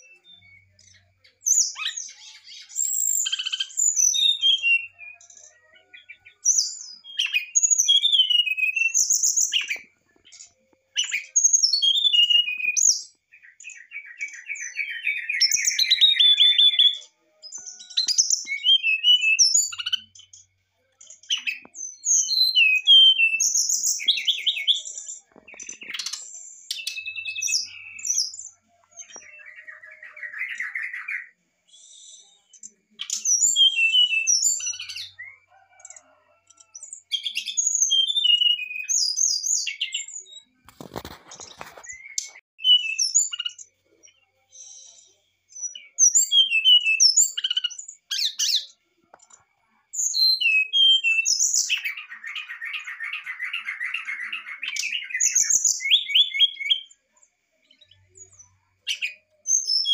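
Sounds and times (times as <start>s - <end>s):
bird whistles and trills: 0.0s - 20.4s, 21.0s - 45.0s, 45.6s - 48.7s, 49.9s - 56.9s, 57.7s - 59.9s.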